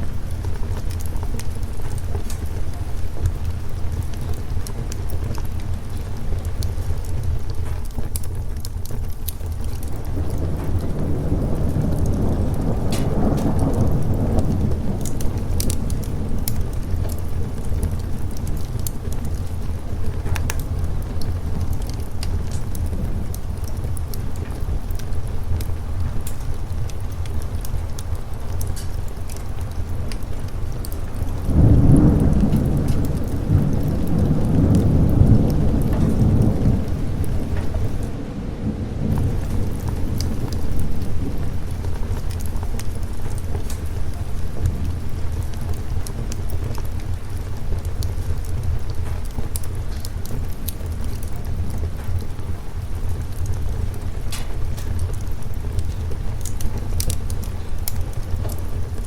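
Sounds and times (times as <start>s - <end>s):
fireplace fire crackling: 0.0s - 59.0s
low rumble of thunder: 0.0s - 59.0s
steady rain: 0.0s - 59.0s.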